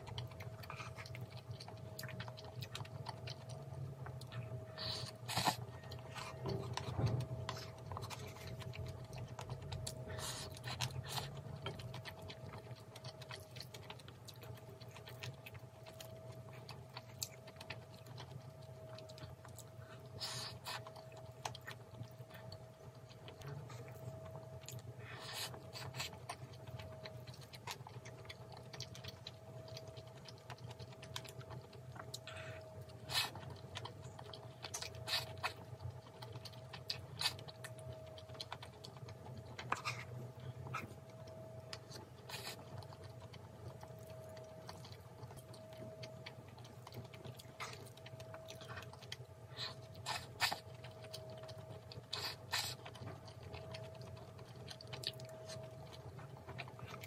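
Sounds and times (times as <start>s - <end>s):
chewing crunchy food: 0.0s - 57.0s
faint steady hum: 0.0s - 57.0s.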